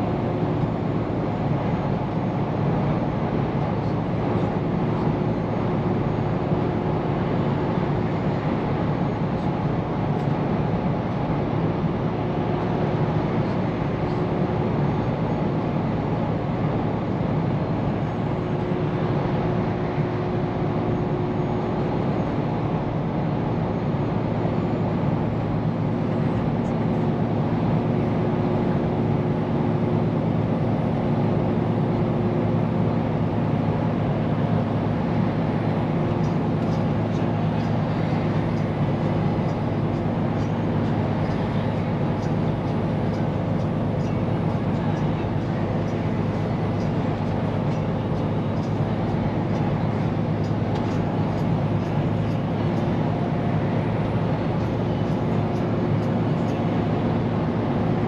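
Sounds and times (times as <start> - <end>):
diesel truck engine drone: 0.0 - 58.0.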